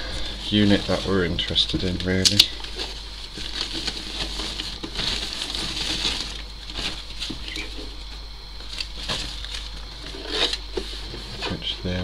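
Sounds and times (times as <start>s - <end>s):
plastic bag crinkling: 0.2s - 11.7s.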